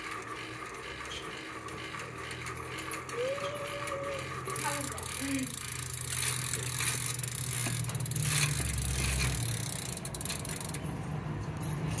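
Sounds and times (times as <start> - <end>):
bike chain rattling and clicking: 0.0 - 11.1.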